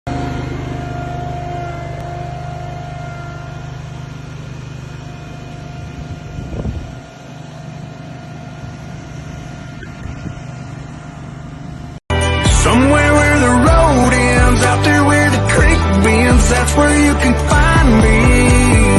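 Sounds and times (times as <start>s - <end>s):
heavy machine engine running: 0.1s - 18.9s
steady whine: 0.1s - 18.9s.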